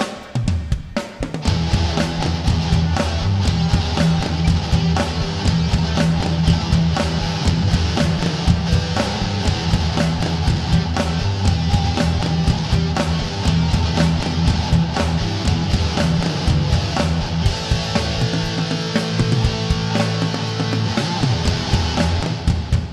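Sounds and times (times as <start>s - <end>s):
bass: 0.0s - 22.9s
rock guitar: 0.0s - 22.9s
steady drum beat: 0.0s - 22.9s.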